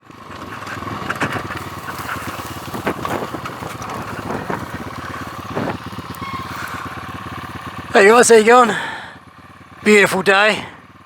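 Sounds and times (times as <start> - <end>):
motorbike engine idling: 0.0 - 11.0.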